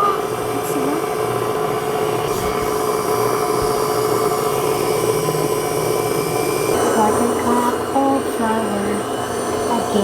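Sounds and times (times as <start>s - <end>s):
stand mixer motor humming: 0.0s - 10.0s.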